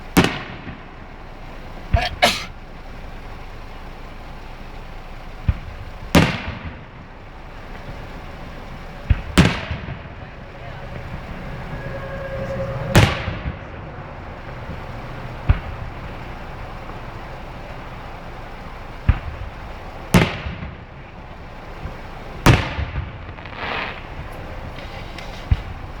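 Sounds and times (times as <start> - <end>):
fireworks bursting: 0.0 - 3.4, 5.0 - 26.0.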